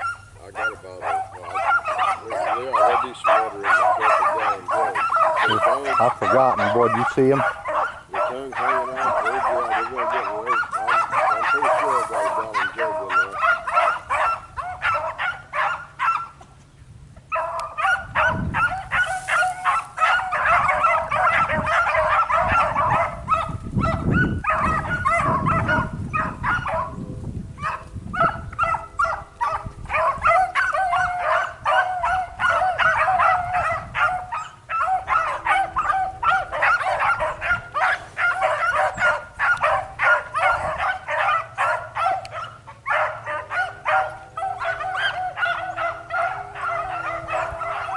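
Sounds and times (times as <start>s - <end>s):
dogs baying and yelping: 0.0s - 16.5s, 17.2s - 47.9s.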